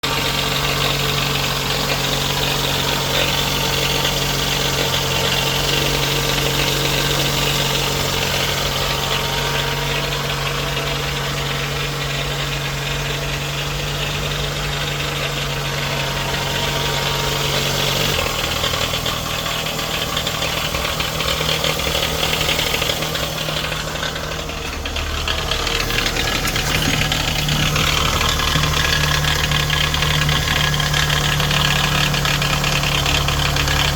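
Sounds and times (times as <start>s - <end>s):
car engine idling with rattle: 0.0s - 33.9s.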